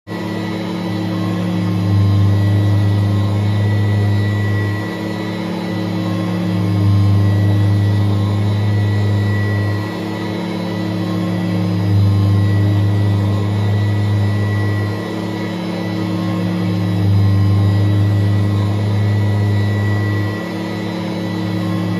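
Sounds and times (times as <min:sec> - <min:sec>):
vacuum cleaner running: 0:00.0 - 0:21.9.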